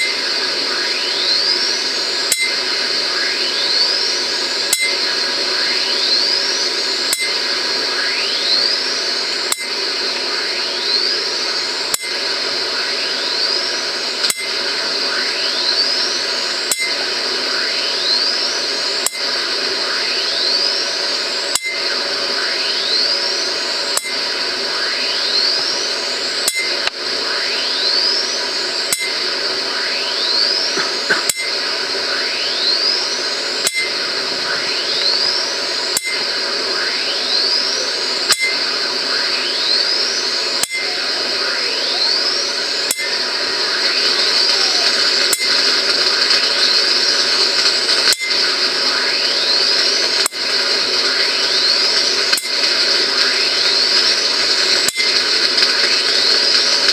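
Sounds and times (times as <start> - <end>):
rising electronic whine: 0.0 - 56.9
steady hiss: 0.0 - 56.9.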